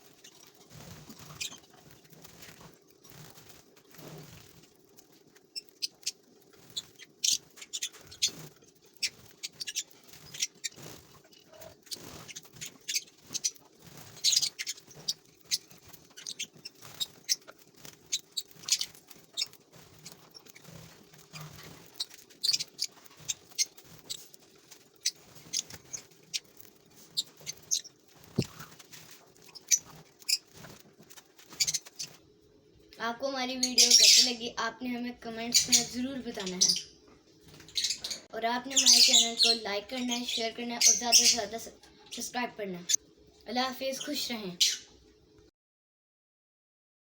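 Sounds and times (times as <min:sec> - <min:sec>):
lovebirds chattering: 0:00.0 - 0:30.8, 0:31.4 - 0:32.2, 0:33.5 - 0:34.5, 0:35.3 - 0:44.9.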